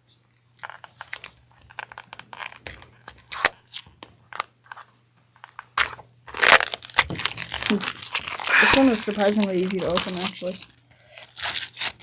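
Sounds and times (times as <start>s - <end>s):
foil wrapper crinkling and tearing: 0.3s - 4.5s, 5.4s - 12.0s.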